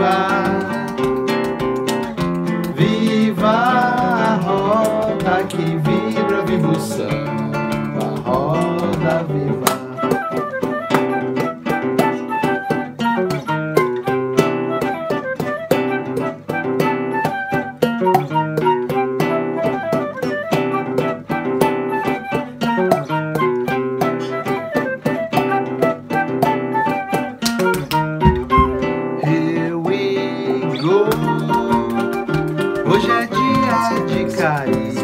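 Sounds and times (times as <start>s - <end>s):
acoustic guitar chords: 0.0s - 35.0s
flute melody: 0.0s - 35.0s
hand slaps and claps: 0.0s - 35.0s.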